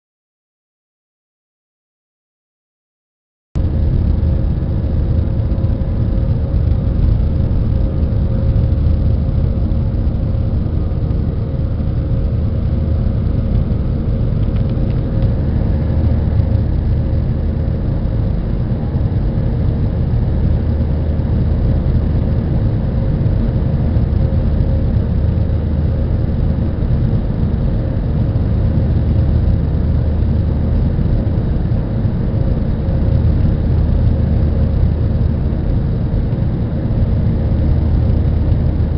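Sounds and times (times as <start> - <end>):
faint steady hum: 3.6 - 38.9
jet engine drone in cabin: 3.6 - 38.9.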